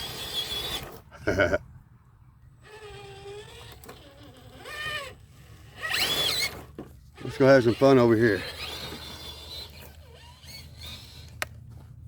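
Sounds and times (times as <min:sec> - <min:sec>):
electric motor whining: 0:00.0 - 0:01.1, 0:02.6 - 0:11.6.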